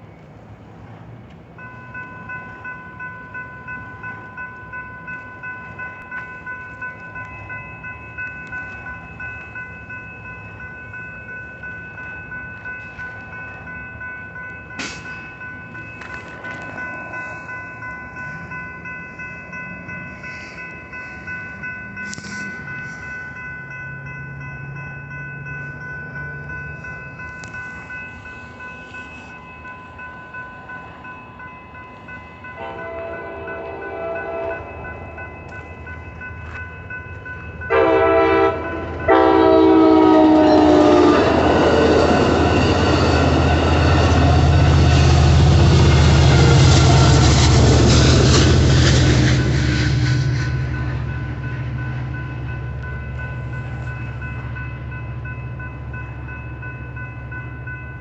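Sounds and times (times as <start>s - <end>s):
crossing warning bell ringing: 0.0s - 58.0s.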